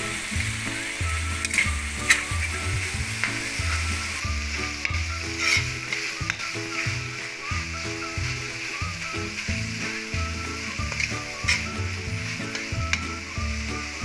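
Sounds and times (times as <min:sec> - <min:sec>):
background music with bass: 0:00.0 - 0:14.0
sauce sizzling in a wok: 0:00.0 - 0:14.0
spatula scraping a pan: 0:00.0 - 0:14.0.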